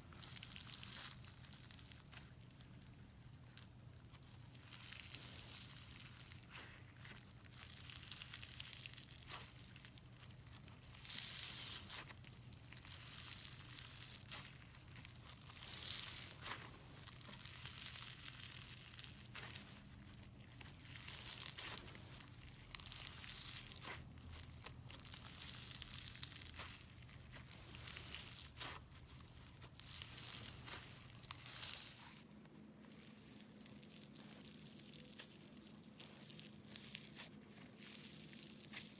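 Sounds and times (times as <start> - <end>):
slime squeezed by hand: 0.1 - 38.9.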